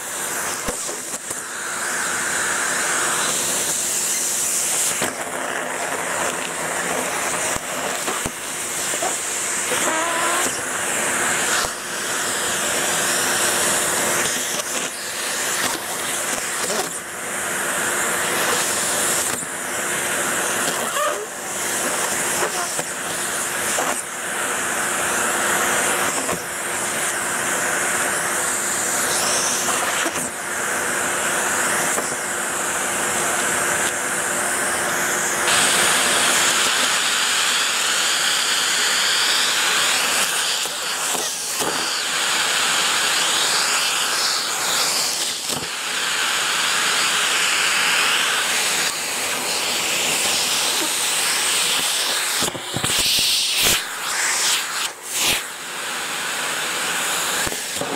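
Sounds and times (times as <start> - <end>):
vacuum cleaner sucking leaves: 0.0 - 57.9.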